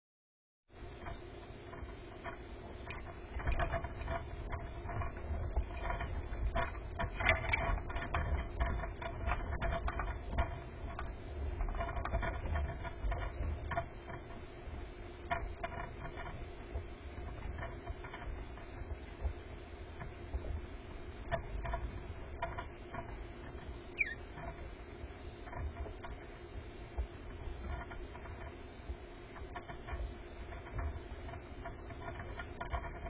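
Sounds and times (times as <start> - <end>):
birds clicking and scratching in nest box: 1.0 - 33.0.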